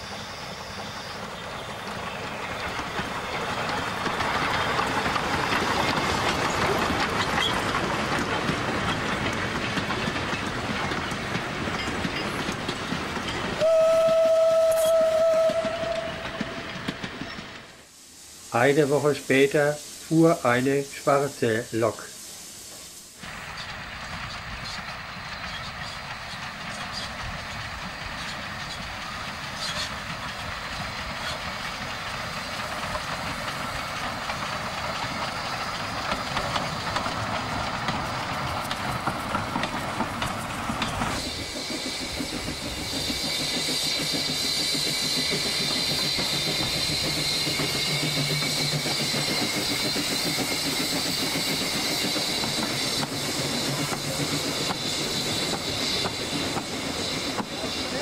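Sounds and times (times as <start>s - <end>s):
steam hiss: 0.0s - 58.0s
steam train passing: 0.0s - 58.0s
wheels clicking over rail joints: 1.6s - 14.2s, 23.2s - 58.0s.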